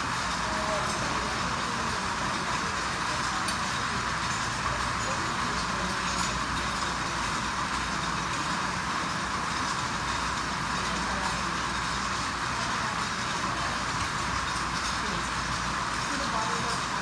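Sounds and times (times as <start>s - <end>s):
chain conveyor running: 0.0s - 17.0s.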